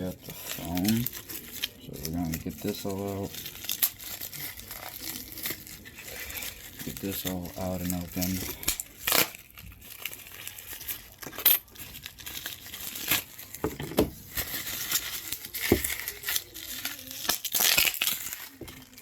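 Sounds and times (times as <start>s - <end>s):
packaging rustling and crinkling: 0.0s - 19.0s.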